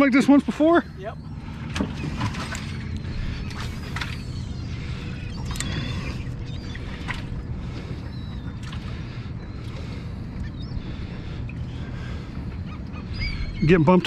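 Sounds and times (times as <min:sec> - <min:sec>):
water around a boat: 0:00.0 - 0:14.0
wind: 0:00.0 - 0:14.0.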